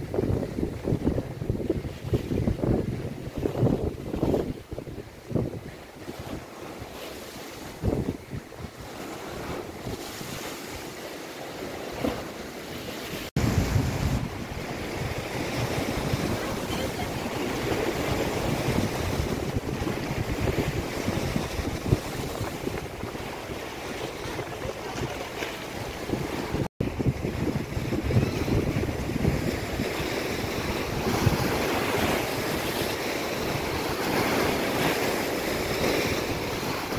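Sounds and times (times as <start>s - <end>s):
lake waves breaking: 0.0s - 36.9s
wind buffeting microphone: 0.0s - 36.9s.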